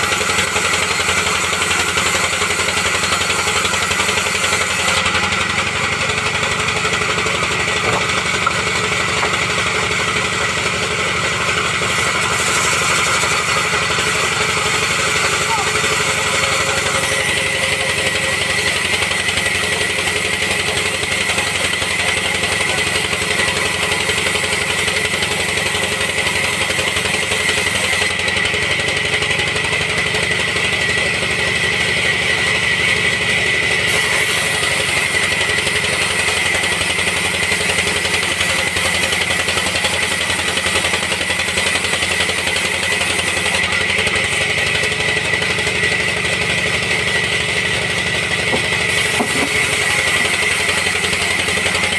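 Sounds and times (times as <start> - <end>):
sawmill machinery drone: 0.0 - 51.9.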